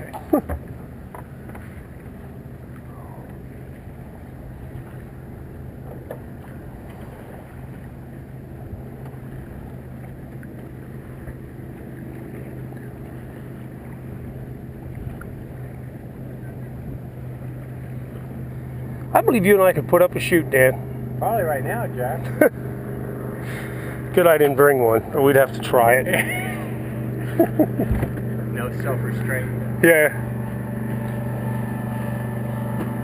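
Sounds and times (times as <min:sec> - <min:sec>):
continuous low hum: 0:00.0 - 0:33.0
water noise: 0:00.0 - 0:33.0
wind: 0:00.0 - 0:33.0.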